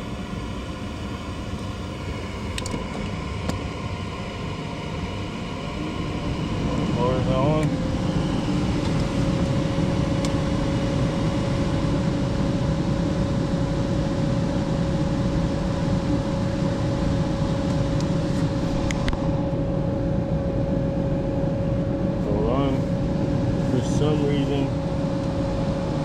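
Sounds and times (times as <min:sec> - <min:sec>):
gas furnace whoosh and hum: 0:00.0 - 0:26.0.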